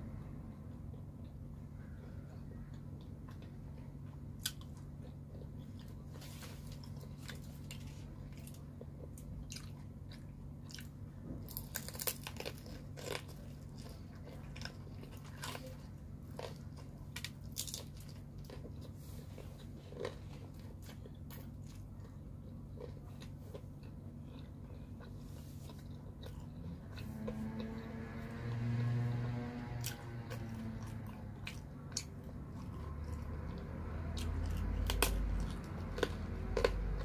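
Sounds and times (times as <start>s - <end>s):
steady low hum: 0.0s - 37.0s
crunchy chewing and biting: 0.2s - 37.0s.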